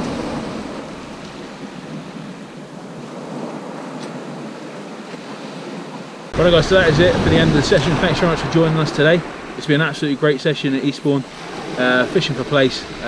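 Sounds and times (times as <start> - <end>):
waves washing up shingle beach: 0.0 - 13.0.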